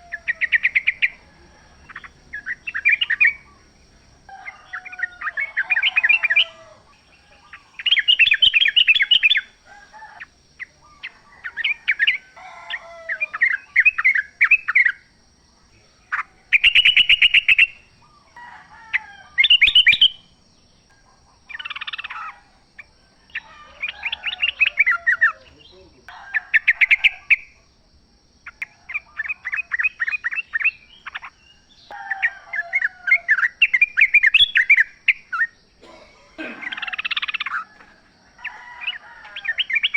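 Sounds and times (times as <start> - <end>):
bulbuls chattering song: 0.0 - 39.9.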